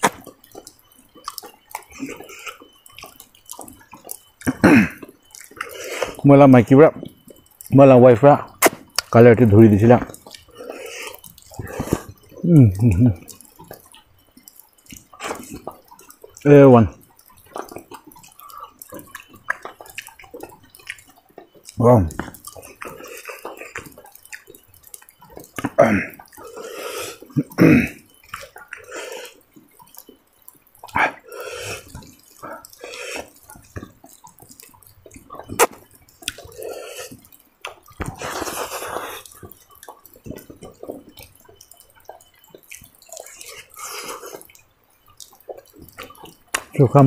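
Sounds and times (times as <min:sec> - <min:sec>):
wet chewing and lip-smacking: 0:00.0 - 0:47.0.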